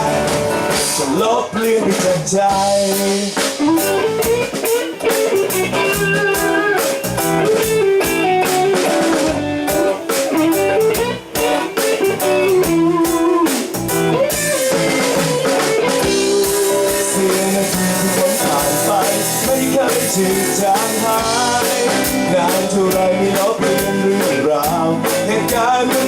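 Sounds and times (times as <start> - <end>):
bass guitar: 0.0 - 26.0
drum kit: 0.0 - 26.0
lead electric guitar melody: 0.0 - 26.0.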